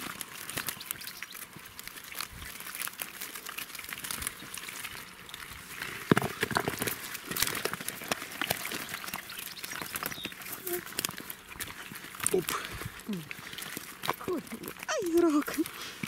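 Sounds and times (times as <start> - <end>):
fish flopping: 0.0 - 16.0.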